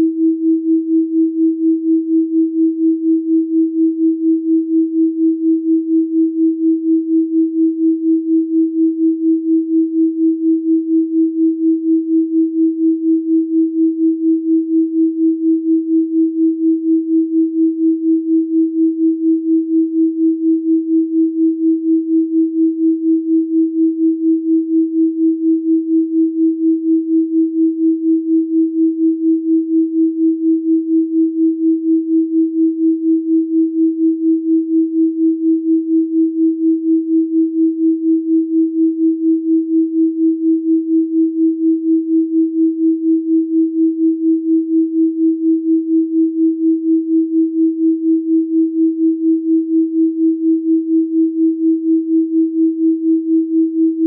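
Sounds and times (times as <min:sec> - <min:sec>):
pulsing sine tone: 0:00.0 - 0:54.0.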